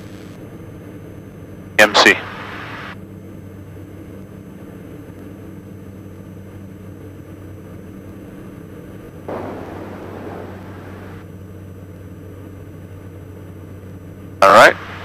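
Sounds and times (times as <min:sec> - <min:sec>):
aircraft engines droning in flight: 0:00.0 - 0:15.0.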